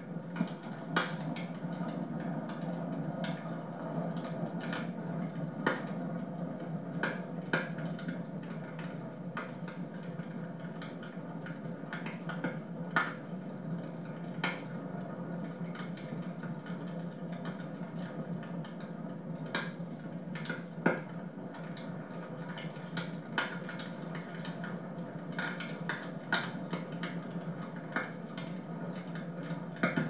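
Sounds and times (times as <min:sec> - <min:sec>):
wood fire crackling and popping: 0:00.1 - 0:30.0.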